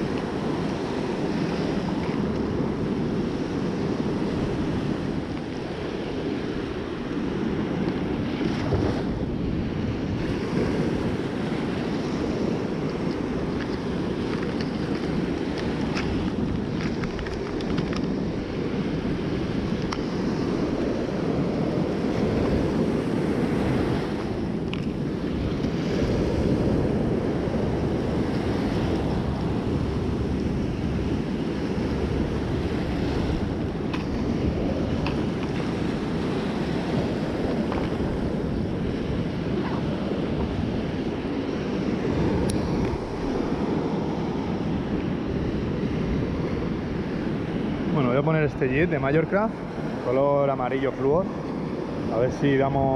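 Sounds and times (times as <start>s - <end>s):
surf breaking on beach: 0.0s - 52.9s
wind buffeting microphone: 0.0s - 52.9s.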